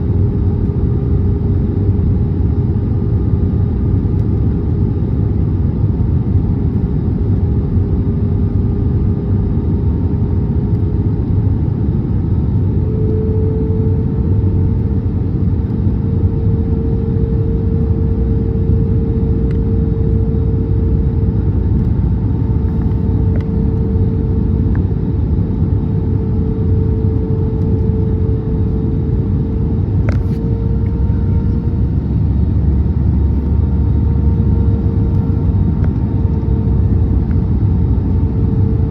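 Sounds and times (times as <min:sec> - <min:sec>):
aircraft cabin engine rumble: 0:00.0 - 0:38.9
jet engine whine: 0:00.0 - 0:38.9.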